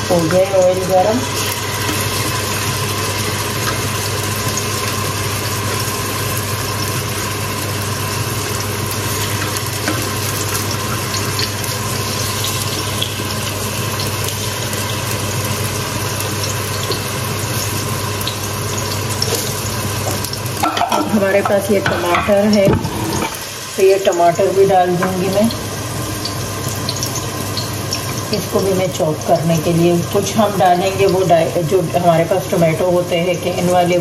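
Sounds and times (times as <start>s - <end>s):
onions sizzling in hot oil: 0.0s - 34.0s.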